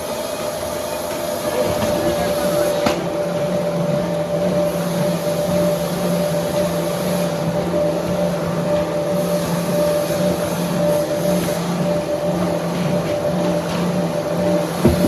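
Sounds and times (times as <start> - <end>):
sawmill machinery drone: 0.0 - 15.0.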